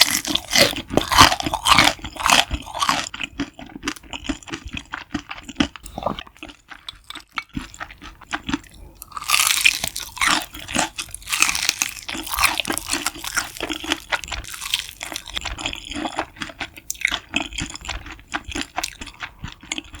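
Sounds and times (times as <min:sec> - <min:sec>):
crunching and chewing crispy food: 0:00.0 - 0:20.0.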